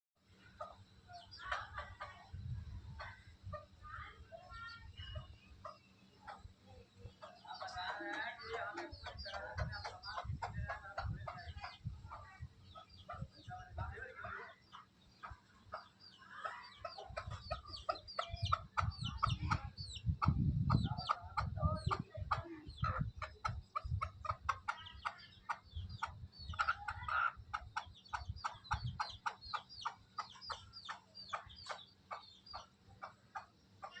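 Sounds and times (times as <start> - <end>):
baby chicks cheeping: 0.3 - 34.0
chicken calls: 0.4 - 2.3, 4.5 - 34.0.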